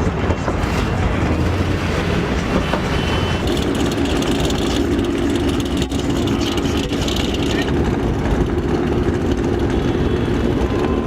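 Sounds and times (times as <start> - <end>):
car engine and road rumble: 0.0 - 11.0
engine drone: 0.0 - 11.0.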